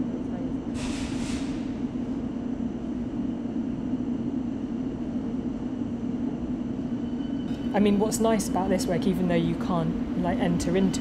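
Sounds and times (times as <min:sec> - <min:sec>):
underground train hum and rumble: 0:00.0 - 0:11.0.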